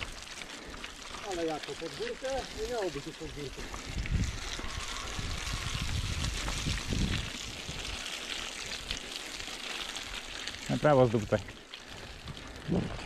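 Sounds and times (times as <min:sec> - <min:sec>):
bike tyres rolling through mud: 0:00.0 - 0:13.0.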